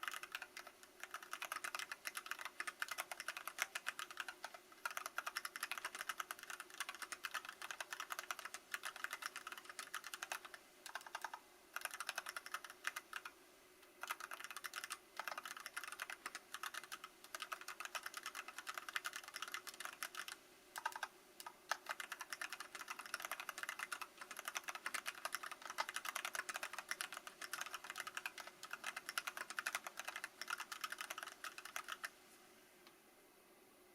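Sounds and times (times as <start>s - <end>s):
fast typing on mechanical keyboard: 0.0s - 13.3s, 14.0s - 32.1s.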